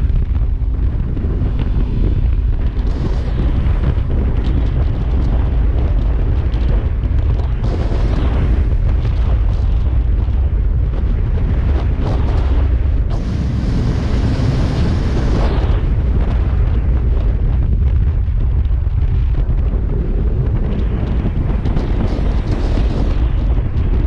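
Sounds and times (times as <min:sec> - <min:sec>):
heavy wind buffeting microphone: 0:00.0 - 0:24.0.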